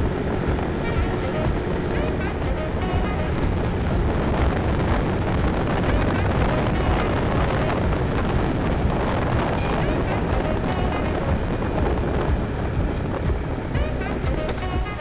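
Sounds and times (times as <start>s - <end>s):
road and engine rumble: 0.0s - 15.0s
wind buffeting microphone: 0.0s - 15.0s.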